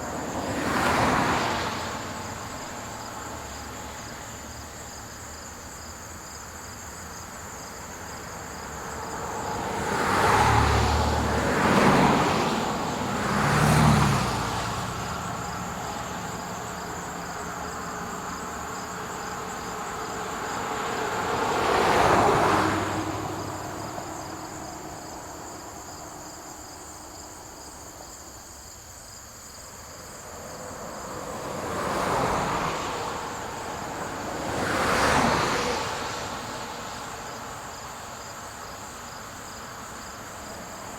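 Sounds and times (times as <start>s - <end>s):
cars passing by: 0.0s - 40.9s
crickets chirping: 0.0s - 40.9s.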